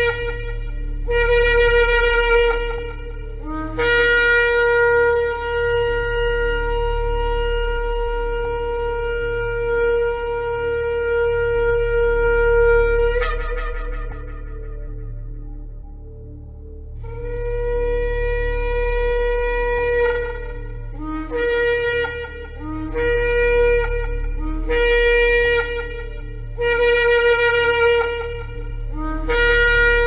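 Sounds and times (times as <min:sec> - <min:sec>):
shofar blasts: 0:00.0 - 0:16.2, 0:17.0 - 0:30.0
low steady hum: 0:00.0 - 0:30.0.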